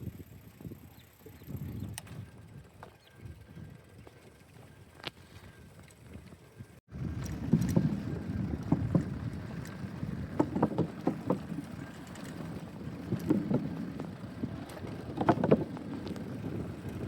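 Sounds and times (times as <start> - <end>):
wind buffeting microphone: 0.0 - 17.0
bicycle knocks and rattles: 0.6 - 17.0.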